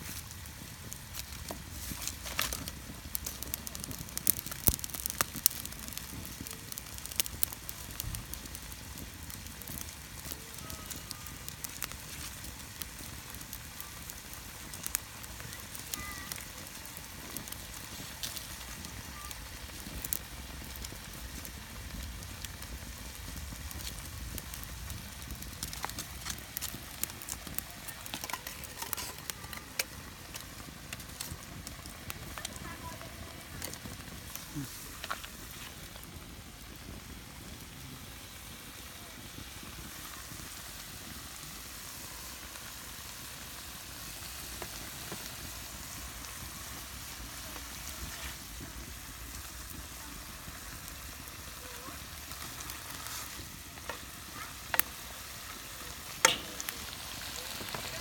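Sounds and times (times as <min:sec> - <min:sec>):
low rumble of stove: 0:00.0 - 0:58.0
wood fire crackling and popping: 0:00.0 - 0:58.0.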